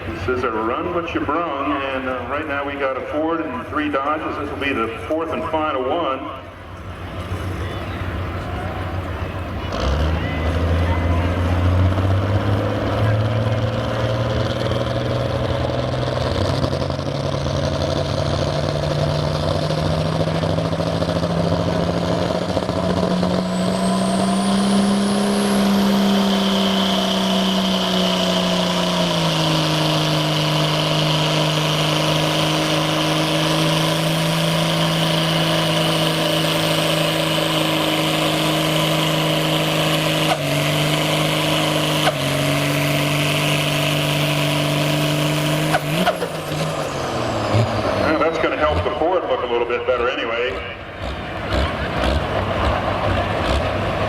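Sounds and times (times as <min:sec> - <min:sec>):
diesel truck engine under load: 0:00.0 - 0:54.0.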